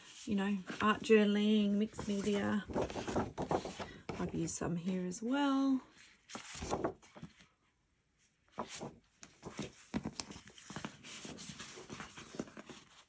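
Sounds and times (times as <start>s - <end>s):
paper sheets rustling: 0.0s - 4.6s, 5.9s - 7.6s, 8.5s - 13.0s.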